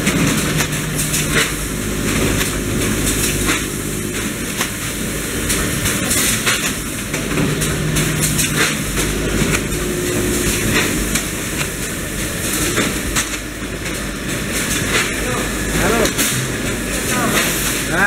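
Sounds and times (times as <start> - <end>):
machine clicks and knocks: 0.0 - 17.8
packing machinery din: 0.0 - 18.0.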